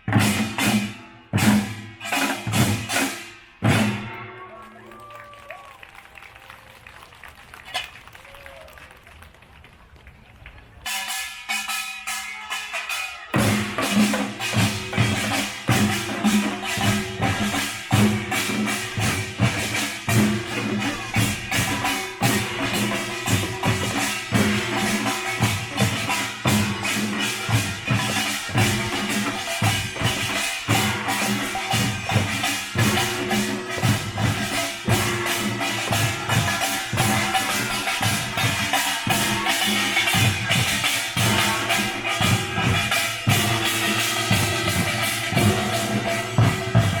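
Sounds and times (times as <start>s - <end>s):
drums and metal gongs band: 0.0s - 5.6s, 10.8s - 47.0s.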